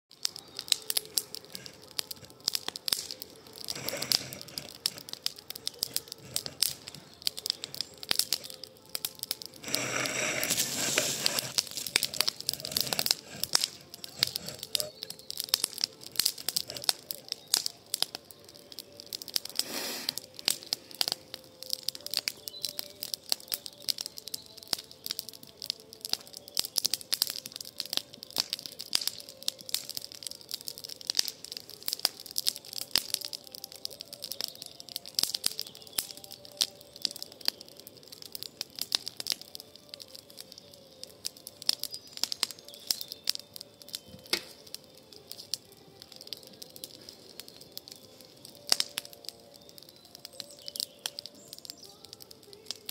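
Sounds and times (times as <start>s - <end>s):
campfire crackling and popping: 0.1s - 52.9s.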